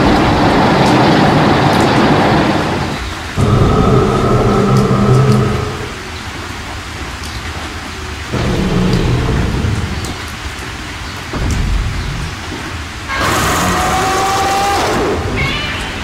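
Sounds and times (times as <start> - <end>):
deep rumbles: 0.0 - 16.0
steady rain: 0.0 - 16.0.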